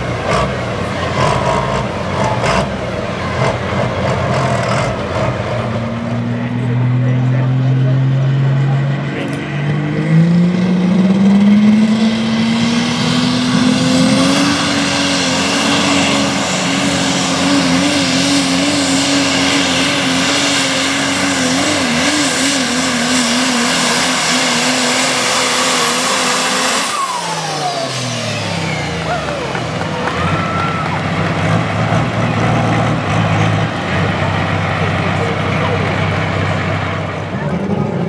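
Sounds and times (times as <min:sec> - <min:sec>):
diesel truck engine revving: 0:00.0 - 0:38.0.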